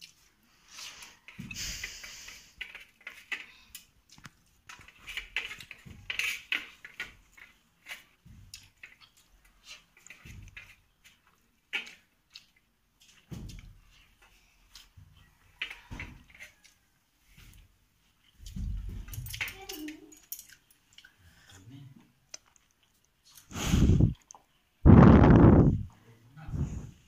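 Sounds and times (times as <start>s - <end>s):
chewing: 0.0s - 18.6s, 19.3s - 24.8s.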